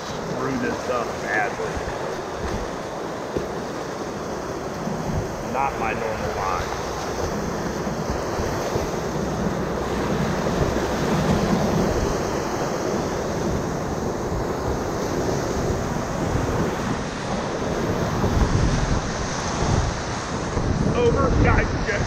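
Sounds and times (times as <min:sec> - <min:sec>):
whitewater rushing and crashing: 0:00.0 - 0:22.0
wind buffeting microphone: 0:00.0 - 0:22.0.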